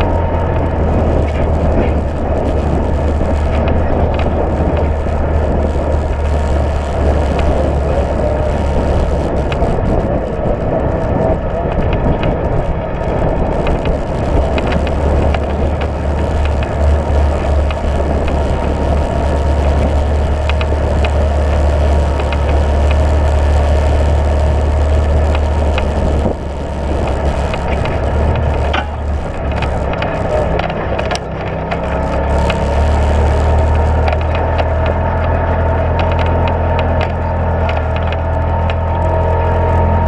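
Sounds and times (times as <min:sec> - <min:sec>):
chassis rattling: 0:00.0 - 0:40.0
tyres clicking on gravel: 0:00.0 - 0:40.0
vehicle engine drone: 0:00.0 - 0:40.0.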